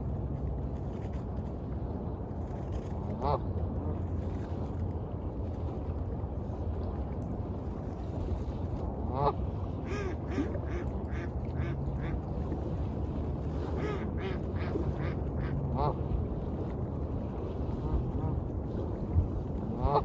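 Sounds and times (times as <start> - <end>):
low wash of waves: 0.0 - 20.0.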